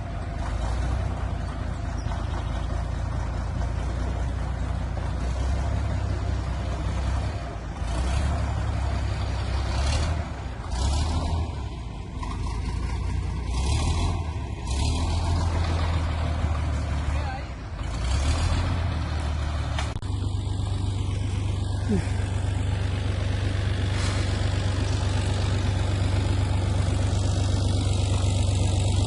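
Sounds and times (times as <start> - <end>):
diesel tractor engine rumbling: 0.0 - 29.0.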